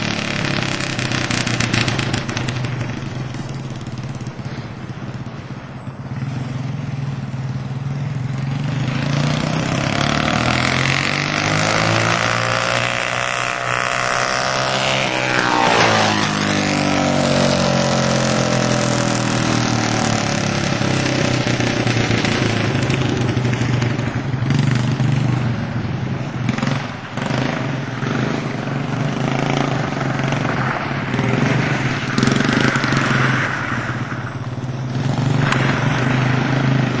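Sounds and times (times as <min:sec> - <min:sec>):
go-kart engine running: 0:00.0 - 0:37.0.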